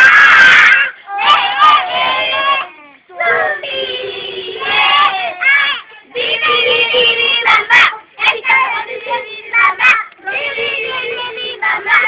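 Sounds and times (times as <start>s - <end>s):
young children singing together: 0.0s - 12.0s.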